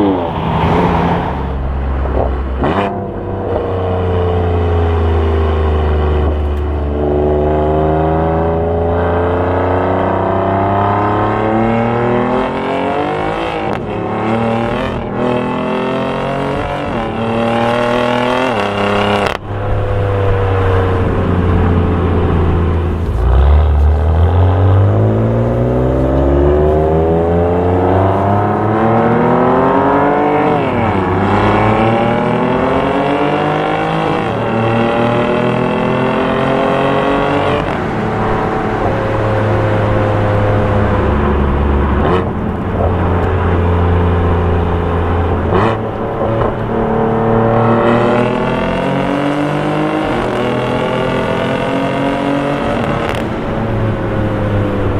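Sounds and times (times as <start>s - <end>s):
car engine accelerating hard: 0.0s - 54.9s.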